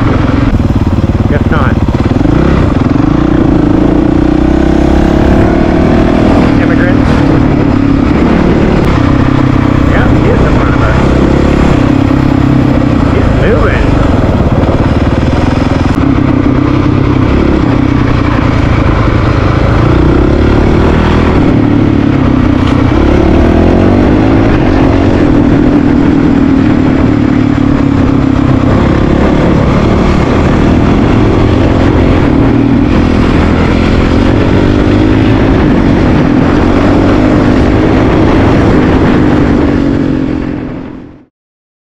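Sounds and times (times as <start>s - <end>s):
motorcycle engine revving while riding: 0.0s - 41.3s.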